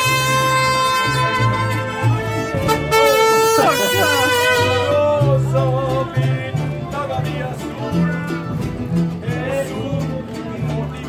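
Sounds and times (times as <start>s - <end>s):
guitars: 0.0s - 11.0s
mariachi band playing: 0.0s - 11.0s
plucked bass line: 0.0s - 11.0s
violins: 0.0s - 11.0s.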